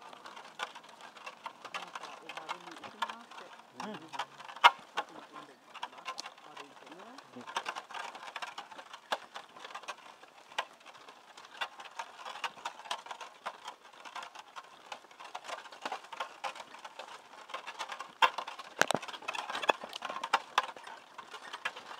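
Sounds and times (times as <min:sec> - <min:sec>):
wooden cart clicking and creaking: 0:00.0 - 0:21.9.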